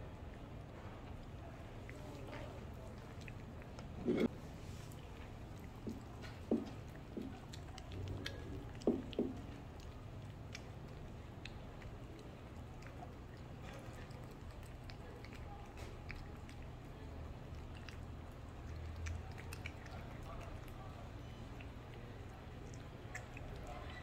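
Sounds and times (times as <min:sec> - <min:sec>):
cats chewing and lapping food: 0:00.0 - 0:24.0.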